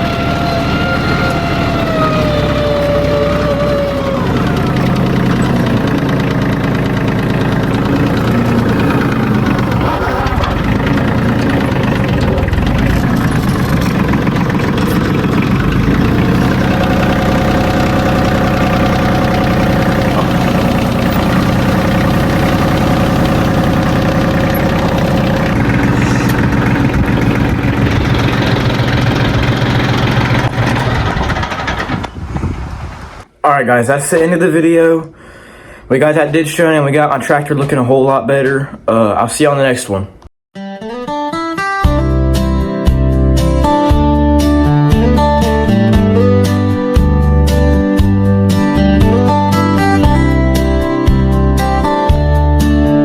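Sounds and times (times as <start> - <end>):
tractor engine running: 0.0 - 33.3, 43.3 - 53.0.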